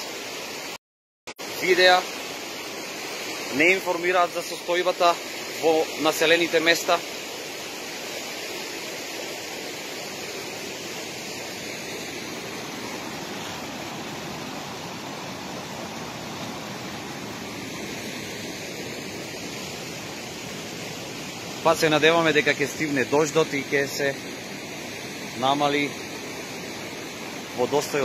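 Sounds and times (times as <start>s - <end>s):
river water rushing: 1.4s - 28.0s.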